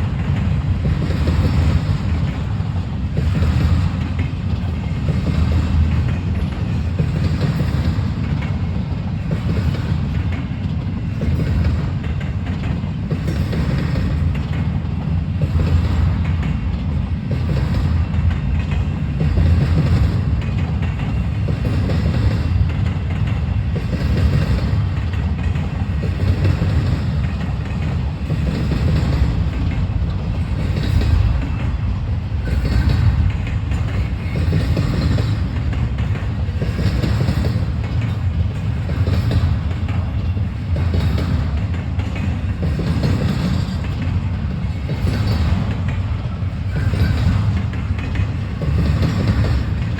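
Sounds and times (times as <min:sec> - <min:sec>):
freight train rumbling past: 0:00.0 - 0:49.9
wheels clicking over rail joints: 0:00.0 - 0:49.9.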